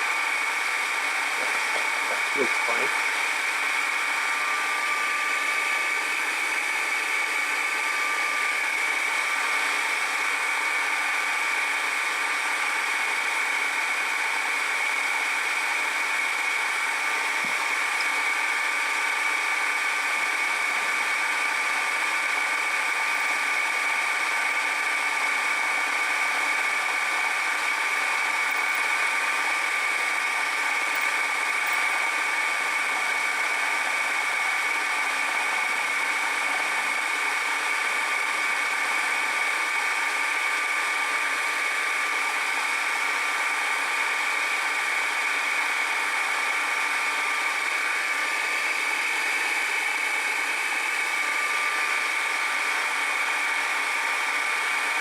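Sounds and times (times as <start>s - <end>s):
machine tool running: 0.0s - 55.0s.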